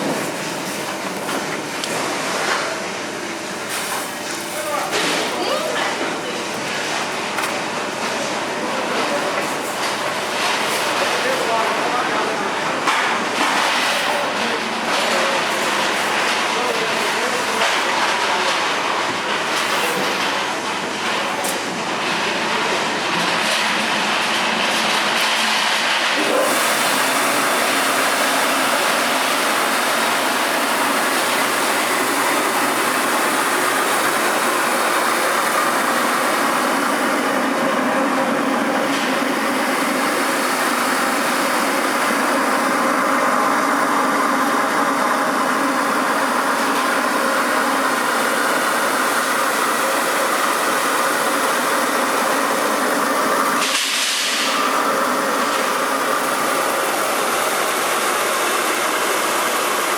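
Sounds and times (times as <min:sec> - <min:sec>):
rice milling machine running: 0:00.0 - 0:59.9.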